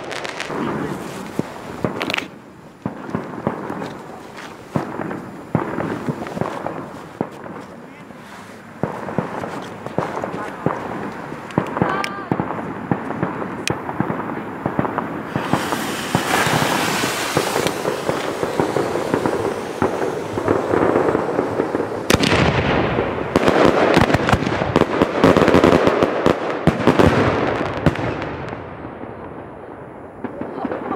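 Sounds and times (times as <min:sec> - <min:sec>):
firework bang: 0:00.0 - 0:08.0, 0:08.8 - 0:29.6
firework cracks: 0:00.0 - 0:30.9
fireworks crackling: 0:00.0 - 0:30.9.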